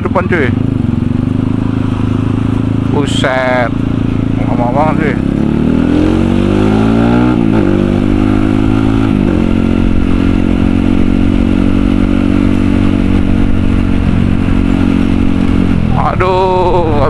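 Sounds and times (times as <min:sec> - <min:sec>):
motorcycle engine shifting up: 0:00.0 - 0:17.0.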